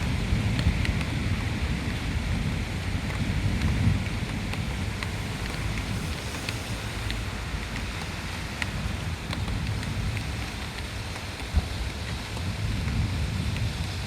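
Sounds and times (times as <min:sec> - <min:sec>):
heavy rain: 0:00.0 - 0:14.0
raindrops ticking on surfaces: 0:00.0 - 0:14.0
wind buffeting microphone: 0:00.0 - 0:14.0.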